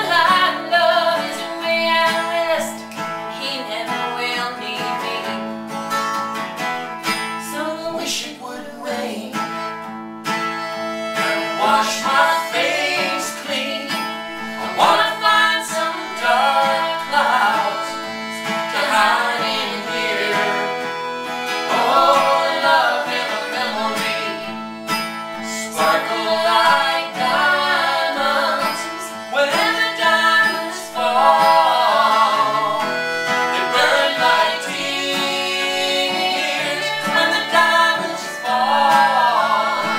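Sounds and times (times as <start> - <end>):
acoustic country guitar music: 0.0 - 39.9.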